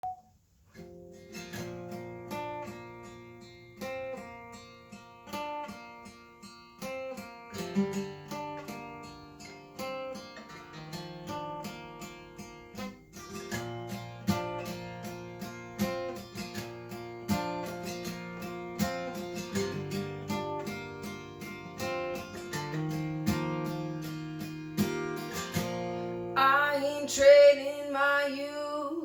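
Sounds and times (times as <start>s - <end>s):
acoustic guitar strumming chords: 0.8s - 28.0s.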